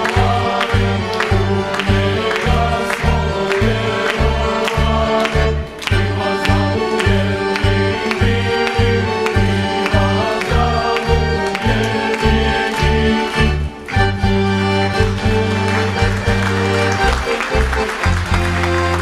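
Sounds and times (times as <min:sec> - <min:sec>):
folk dance music: 0:00.0 - 0:19.0.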